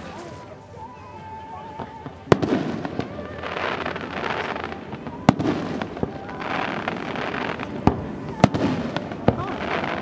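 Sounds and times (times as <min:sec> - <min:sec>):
fireworks bangs: 0:01.7 - 0:10.0.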